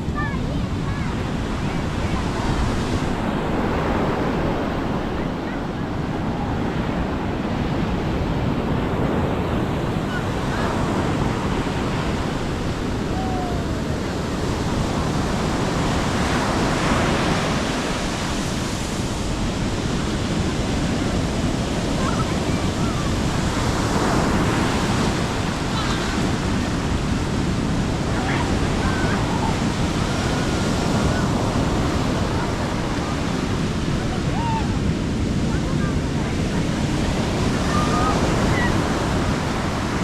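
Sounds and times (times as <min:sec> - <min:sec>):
waves breaking on beach: 0:00.0 - 0:40.0
wind on microphone: 0:00.0 - 0:40.0.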